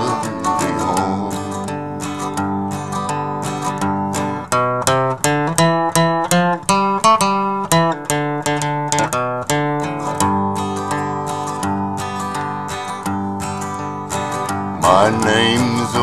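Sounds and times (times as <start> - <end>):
strummed acoustic guitar chords: 0.0 - 16.0.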